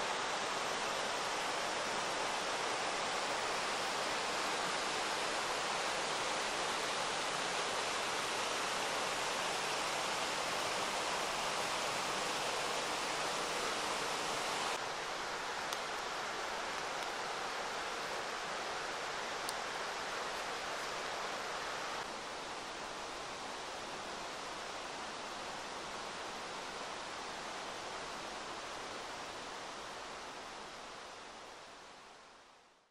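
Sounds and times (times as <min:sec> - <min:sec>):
river flowing over stones: 0:00.0 - 0:32.2.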